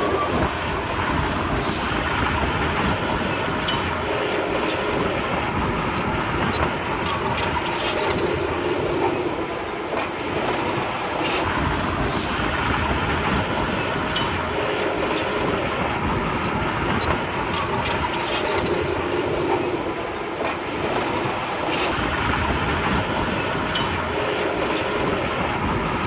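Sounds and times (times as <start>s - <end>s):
metallic clanks of steel tracks: 0.0s - 26.0s.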